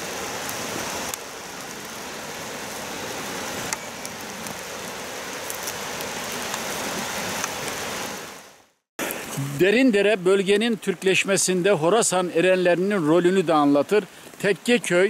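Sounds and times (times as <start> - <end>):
rushing hiss of water: 0.0 - 15.0.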